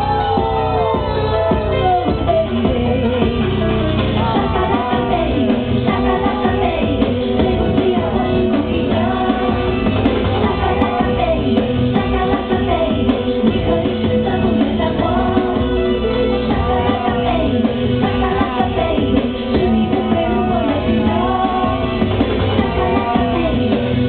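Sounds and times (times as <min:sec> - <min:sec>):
pop backing track: 0:00.0 - 0:24.0
woman singing into microphone: 0:00.0 - 0:24.0.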